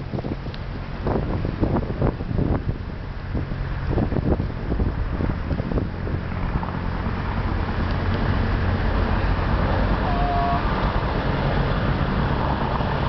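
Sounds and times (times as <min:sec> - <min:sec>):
helicopter rotor and turbine: 0:00.0 - 0:13.0.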